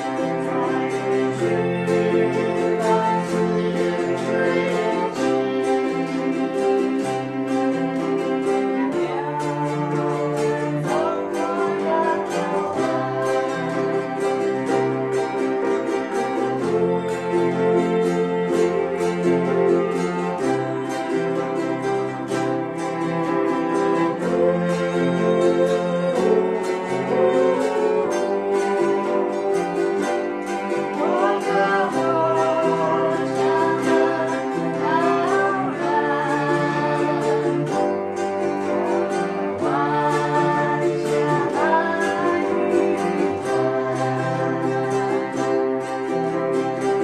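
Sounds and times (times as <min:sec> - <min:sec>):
ukuleles piano and cello song: 0:00.0 - 0:47.0
voices humming and singing: 0:00.0 - 0:47.0.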